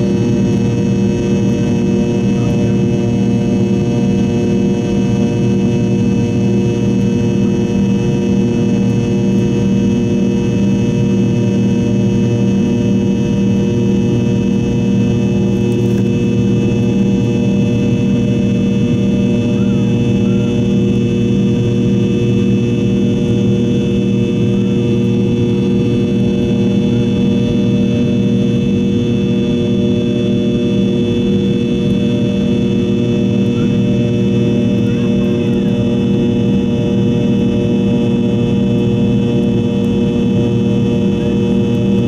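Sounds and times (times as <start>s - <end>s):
jet engine rush: 0.0s - 42.0s
steady engine whine: 0.0s - 42.0s.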